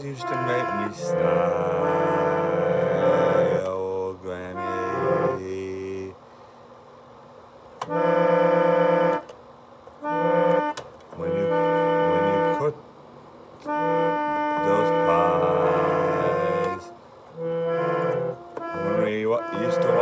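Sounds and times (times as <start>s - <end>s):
keyboard chords: 0.0s - 6.2s, 7.8s - 9.3s, 10.0s - 12.8s, 13.6s - 20.0s.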